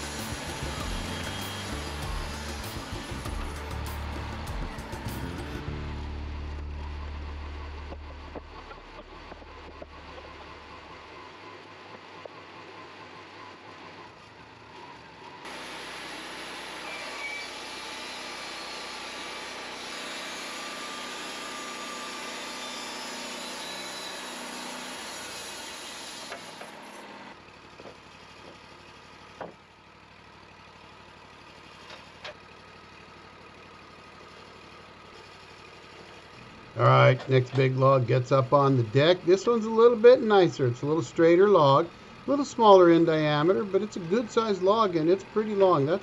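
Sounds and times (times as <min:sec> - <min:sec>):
band sawmill cutting wood: 0:00.0 - 0:29.7, 0:31.5 - 0:46.0.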